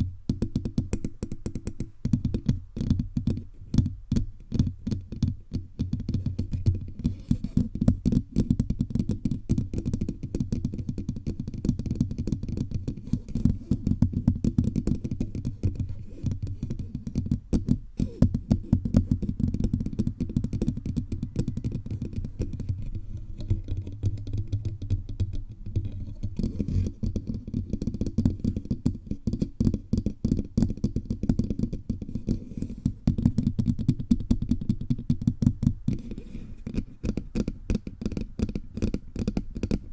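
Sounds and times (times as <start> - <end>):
fingertips tapping a microphone: 0.0 - 39.9.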